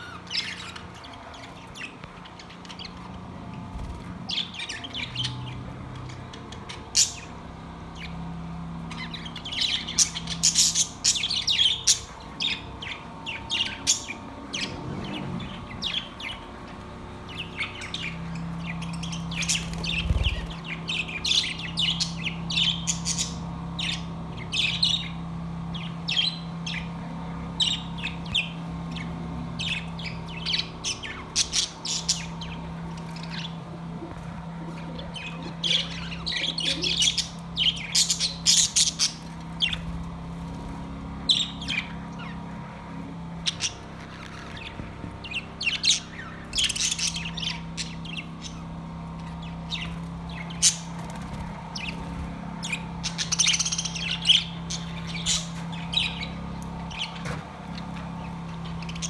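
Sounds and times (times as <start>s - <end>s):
budgerigars chirping: 0.0s - 8.2s, 8.8s - 26.9s, 27.6s - 33.8s, 34.7s - 40.0s, 41.2s - 42.6s, 43.4s - 59.0s.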